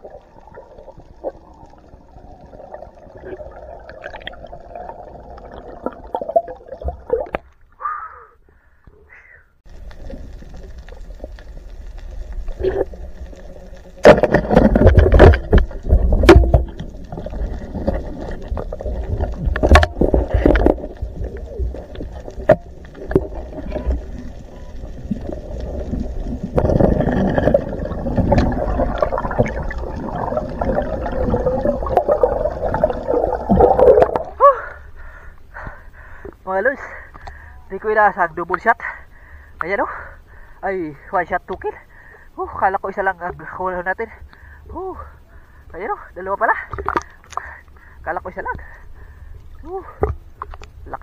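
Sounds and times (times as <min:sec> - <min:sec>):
underwater swishing and gurgling: 0:00.0 - 0:07.8, 0:09.6 - 0:51.0.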